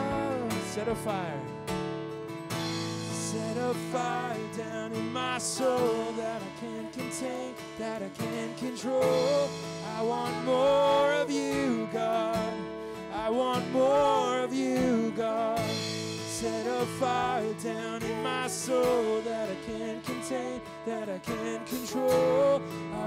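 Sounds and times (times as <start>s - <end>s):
person singing: 0.0s - 1.6s, 3.0s - 23.0s
guitar accompaniment: 0.0s - 23.0s.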